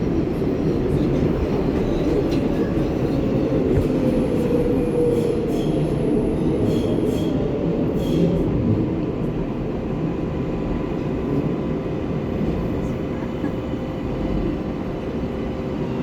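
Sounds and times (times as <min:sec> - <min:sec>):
subway train running rumble: 0:00.0 - 0:16.0.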